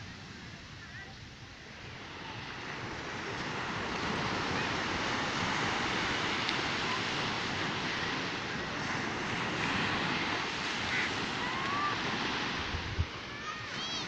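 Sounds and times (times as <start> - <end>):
surf breaking on sandy beach: 0.0 - 14.0
wind rumbling on microphone: 0.0 - 14.0.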